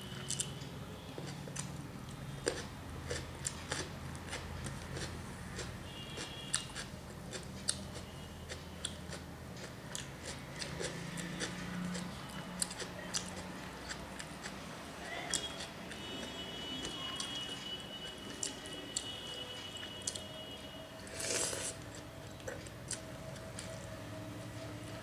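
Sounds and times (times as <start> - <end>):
wet chewing clicks: 0.2 - 19.2, 21.1 - 24.0.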